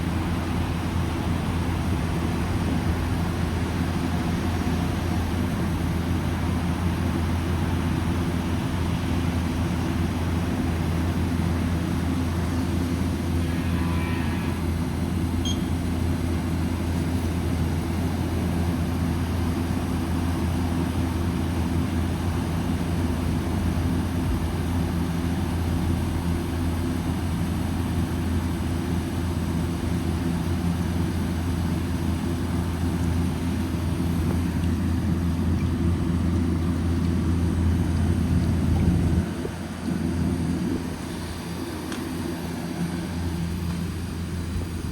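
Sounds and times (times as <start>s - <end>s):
chiller low hum: 0.0s - 44.9s.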